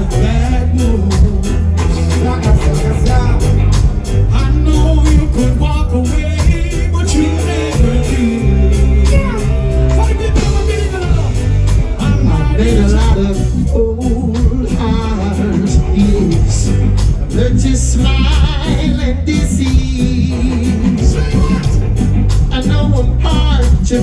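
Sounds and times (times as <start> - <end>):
live band music: 0.0 - 24.0
person singing: 0.0 - 24.0.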